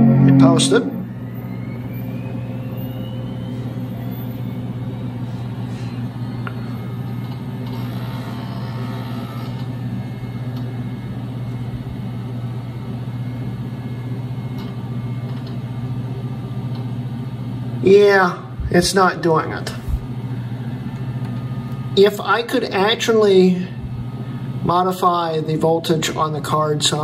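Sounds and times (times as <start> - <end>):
faint rising whine: 0.0 - 24.9
computer humming: 0.0 - 27.0.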